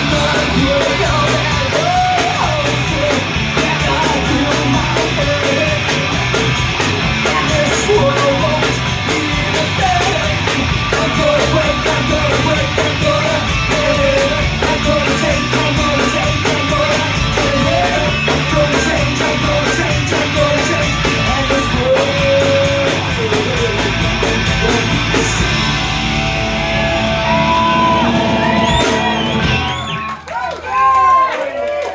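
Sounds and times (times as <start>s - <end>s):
punk rock band playing: 0.0s - 30.3s.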